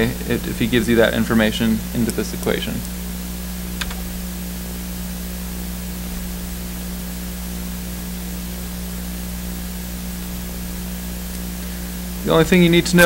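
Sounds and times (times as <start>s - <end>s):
low electrical hum: 0.0s - 13.0s
steady hiss: 0.0s - 13.0s.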